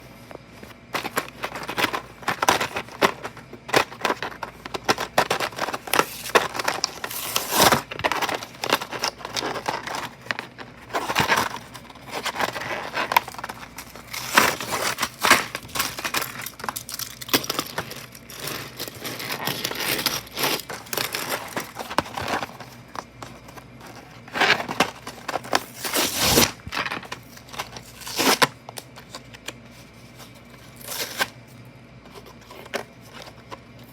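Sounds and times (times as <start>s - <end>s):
packaging crinkling and tearing: 0.6s - 31.4s.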